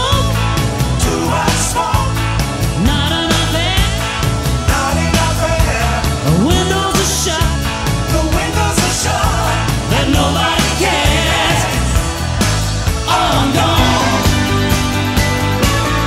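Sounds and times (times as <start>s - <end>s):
rock song with singer: 0.0s - 16.0s
steady drum beat: 0.0s - 16.0s.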